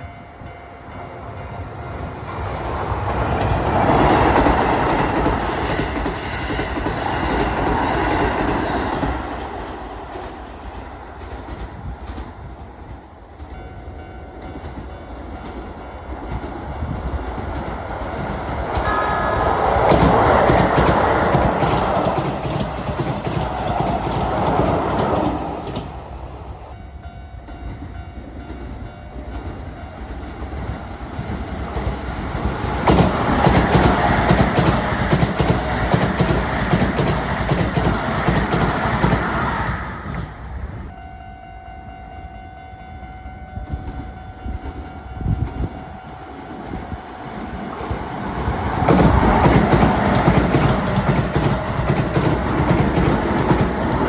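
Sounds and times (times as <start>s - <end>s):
train wheels clattering on rails: 1.8s - 26.2s, 27.0s - 41.0s, 43.8s - 54.0s.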